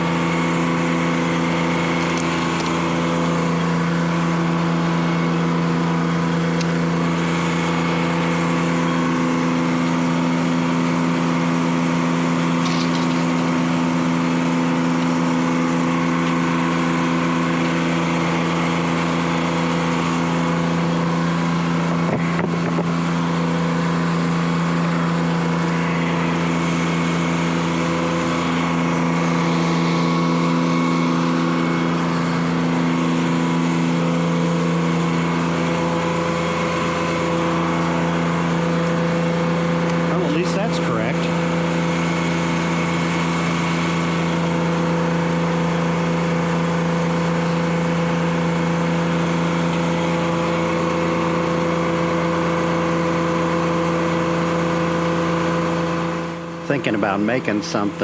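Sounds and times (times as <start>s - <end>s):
two-stroke diesel engine running: 0.0s - 58.0s.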